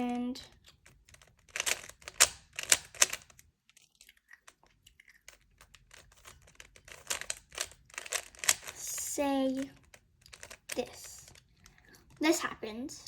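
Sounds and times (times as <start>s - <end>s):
puzzle cube twisting clacks: 0.0s - 12.2s.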